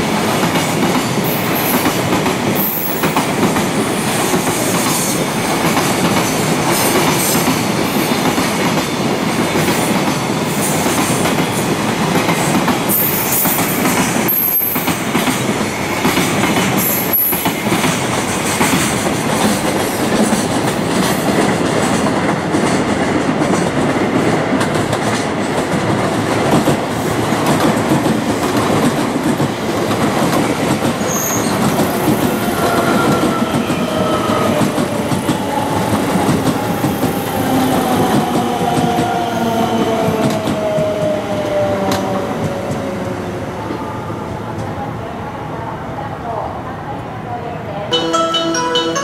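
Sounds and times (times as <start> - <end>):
electric train passing: 0.0 - 46.4.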